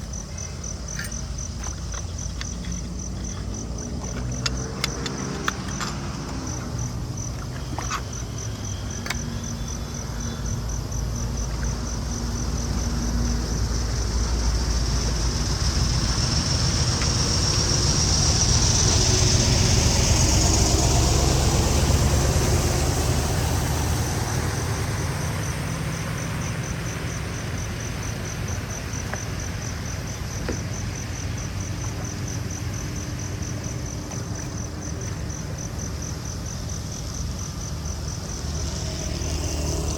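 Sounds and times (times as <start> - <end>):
insects chirping: 0.0 - 39.9
motor vehicle passing: 0.2 - 39.9.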